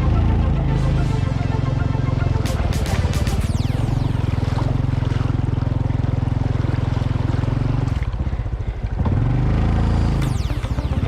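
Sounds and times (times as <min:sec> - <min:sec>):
motorcycle engine revving: 0:02.1 - 0:11.0.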